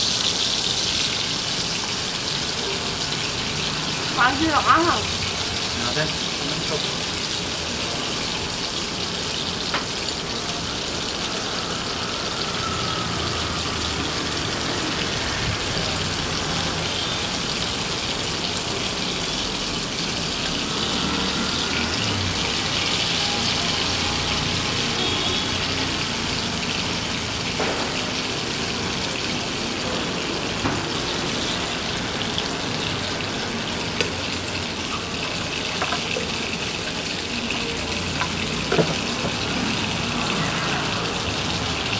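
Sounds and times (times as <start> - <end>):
steak sizzling in a pan: 0.0 - 41.9.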